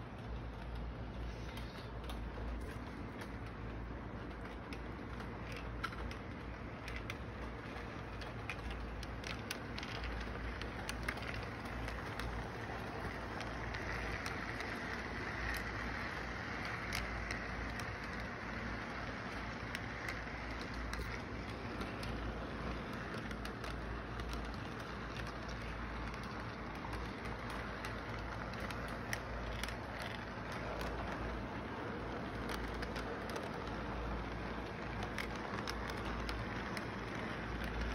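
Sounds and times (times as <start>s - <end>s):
model train rolling rumble: 0.0s - 37.9s
sharp clicks of train on track: 0.0s - 37.9s.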